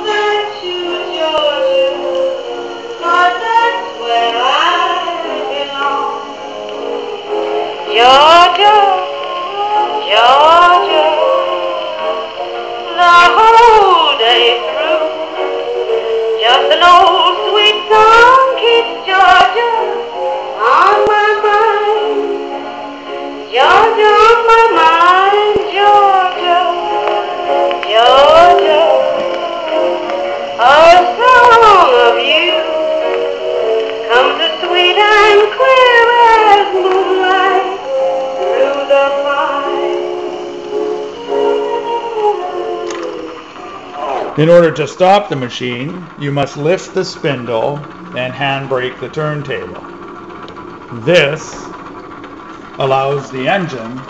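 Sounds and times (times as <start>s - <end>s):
gramophone record of singing: 0.0s - 54.0s.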